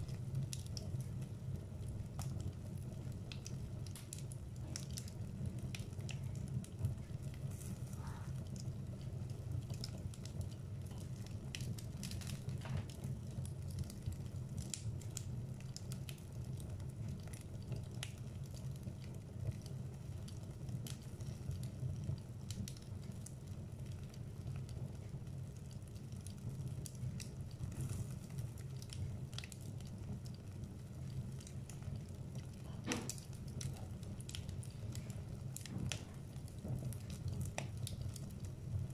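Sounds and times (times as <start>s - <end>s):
burning logs crackling and popping: 0.0s - 38.9s
fire flames rumbling: 0.0s - 38.9s.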